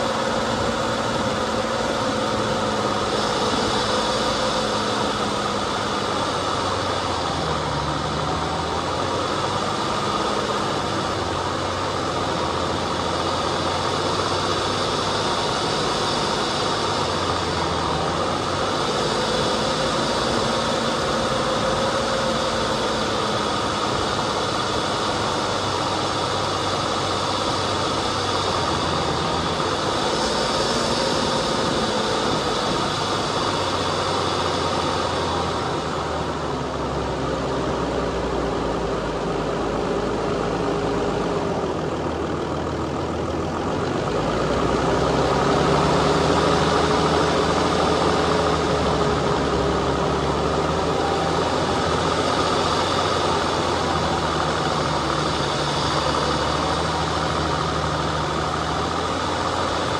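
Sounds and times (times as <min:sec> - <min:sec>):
driving noise: 0:00.0 - 0:59.9
off-road vehicle engine running: 0:00.0 - 0:59.9.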